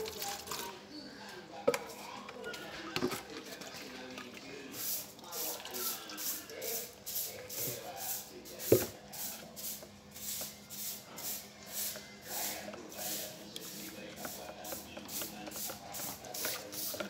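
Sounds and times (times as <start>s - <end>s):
paint being stirred: 1.7s - 17.0s.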